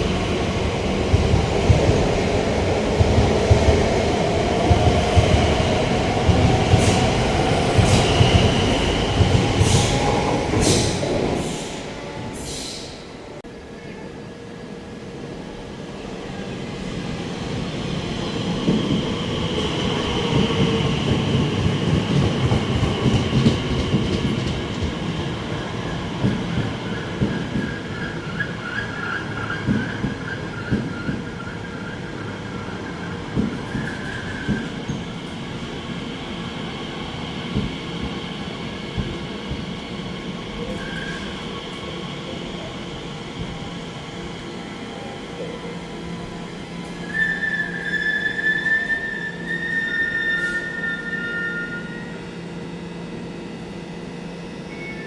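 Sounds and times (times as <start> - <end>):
train rumbling along tracks: 0.0 - 55.0.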